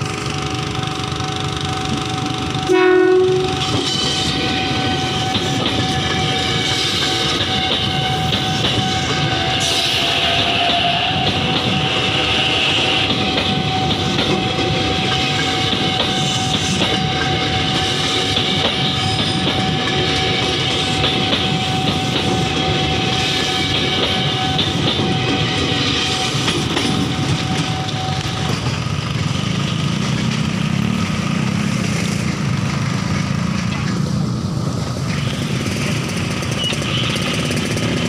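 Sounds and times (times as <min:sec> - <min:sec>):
train wheels clattering over rail joints: 0:03.6 - 0:38.0.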